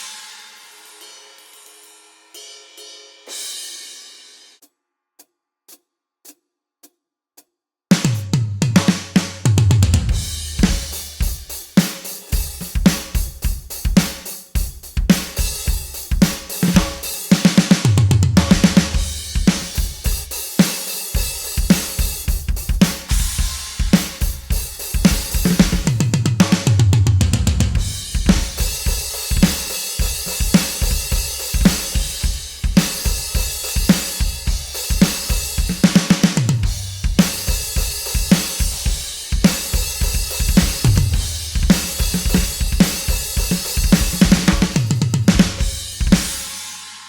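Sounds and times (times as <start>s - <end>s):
kick drum strokes: 7.9s - 46.5s
electronic drum kit playing: 7.9s - 47.0s.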